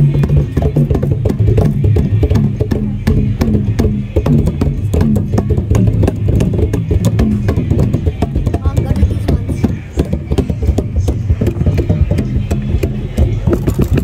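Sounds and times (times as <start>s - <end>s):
bass line: 0.0s - 14.0s
drums: 0.0s - 14.0s.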